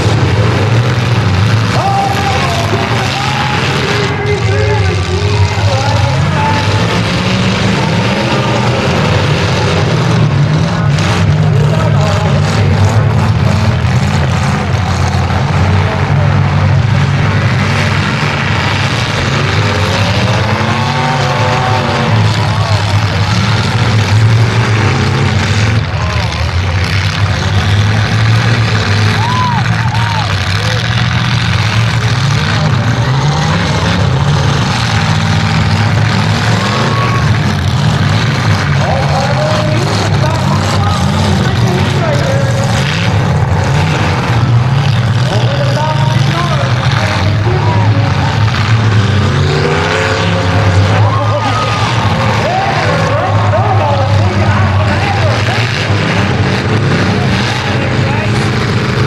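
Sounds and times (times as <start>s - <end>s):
car engines revving: 0.0s - 59.0s
voices: 0.0s - 59.0s.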